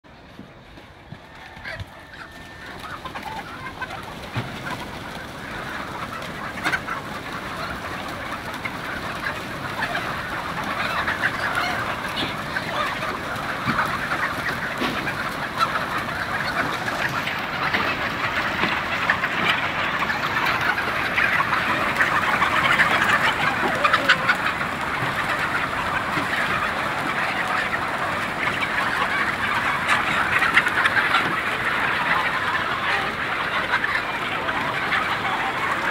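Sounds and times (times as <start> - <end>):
flock of chickens clucking: 0.0 - 35.9.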